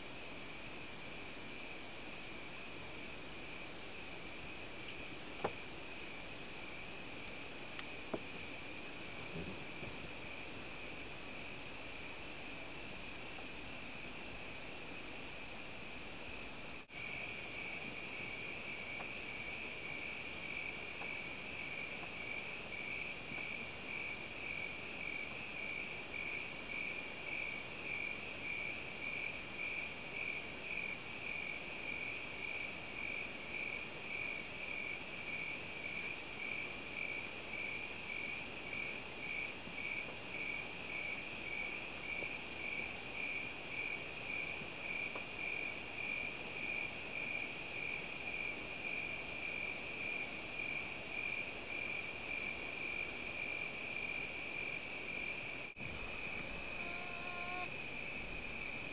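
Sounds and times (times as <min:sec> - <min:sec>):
crickets chirping: 0:00.0 - 0:58.9.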